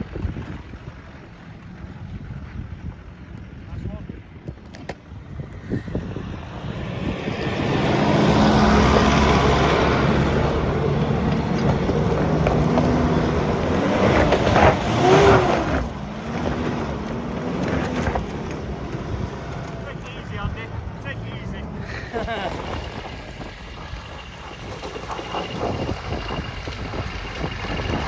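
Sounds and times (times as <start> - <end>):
off-road vehicle engine driving: 0.0 - 28.0.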